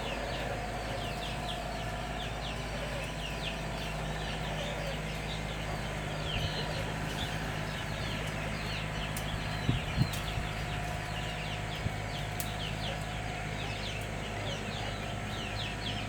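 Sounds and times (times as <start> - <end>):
chickens peeping: 0.0 - 16.0
steady low hum: 0.0 - 16.0.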